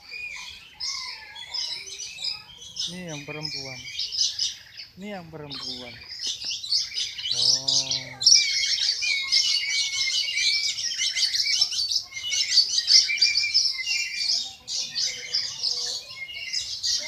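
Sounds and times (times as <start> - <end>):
small birds chirping and twittering: 0.0 - 17.0.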